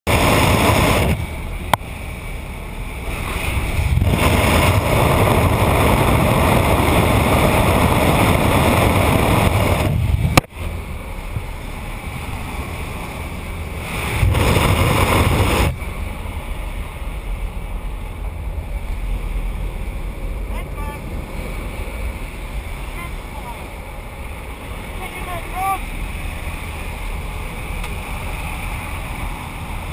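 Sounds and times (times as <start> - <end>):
aircraft engine noise: 0.1 - 29.9
wind rushing: 0.1 - 29.9.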